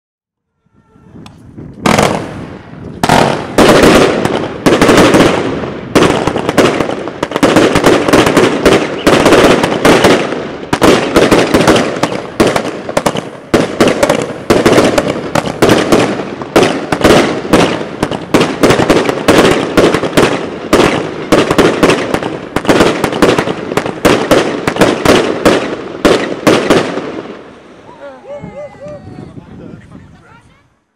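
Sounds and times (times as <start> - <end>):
firework bangs and cracks: 1.2 - 27.9
firework hiss: 1.3 - 28.3.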